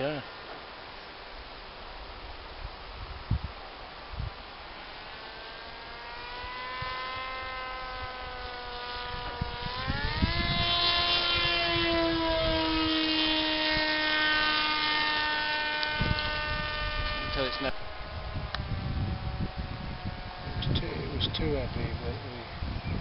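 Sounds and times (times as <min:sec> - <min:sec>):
model aircraft propeller whining: 0:03.7 - 0:23.0.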